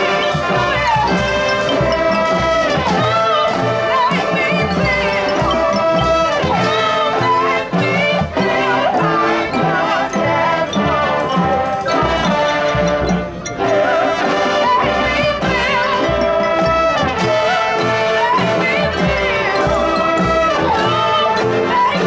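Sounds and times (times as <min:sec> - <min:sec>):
brass melody: 0:00.0 - 0:22.0.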